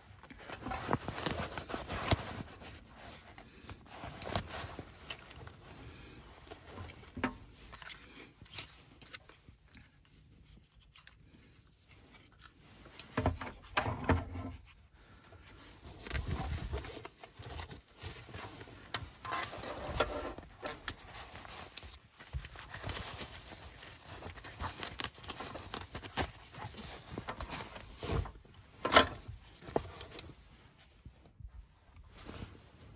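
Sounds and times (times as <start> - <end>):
nylon fabric rustling: 0.0 - 9.6, 14.6 - 32.9.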